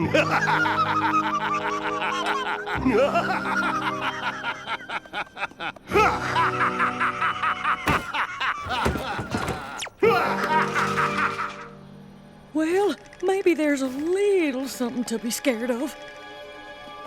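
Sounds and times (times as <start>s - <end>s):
background score music: 0.0s - 17.0s.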